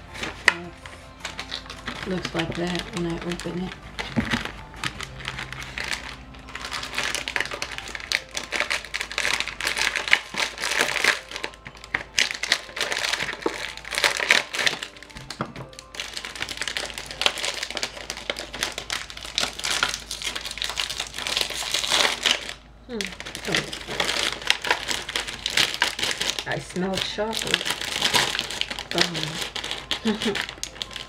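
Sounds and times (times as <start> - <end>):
snack packaging crinkling: 0.0 - 31.0.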